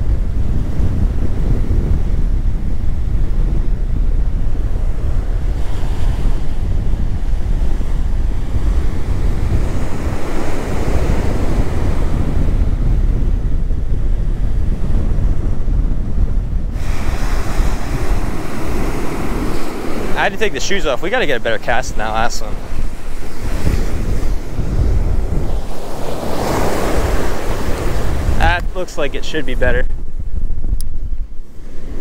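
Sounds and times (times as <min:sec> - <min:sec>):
wind buffeting microphone: 0:00.0 - 0:32.0
ocean surf breaking: 0:02.5 - 0:15.5, 0:16.6 - 0:30.1.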